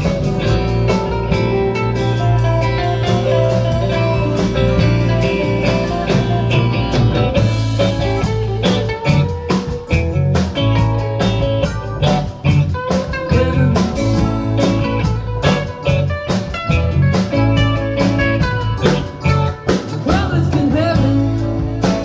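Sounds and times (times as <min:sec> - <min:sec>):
bass guitar: 0:00.0 - 0:22.0
drum kit beat: 0:00.0 - 0:22.0
electric guitars: 0:00.0 - 0:22.0
keyboards: 0:00.0 - 0:22.0.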